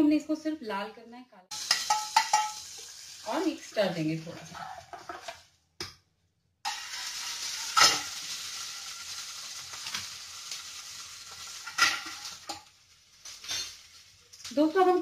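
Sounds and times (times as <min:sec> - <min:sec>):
seeds sizzling in hot oil: 0:01.5 - 0:05.2, 0:06.6 - 0:15.0.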